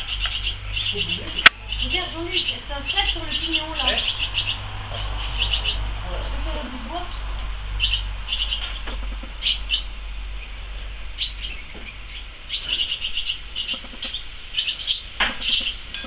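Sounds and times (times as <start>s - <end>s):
low steady hum: 0.0s - 16.0s
swallows twittering: 0.0s - 16.0s.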